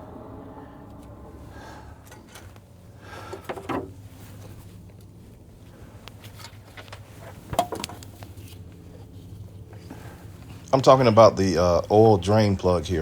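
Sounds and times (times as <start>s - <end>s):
engine oil draining: 0.0s - 13.0s
steady low hum: 0.0s - 13.0s.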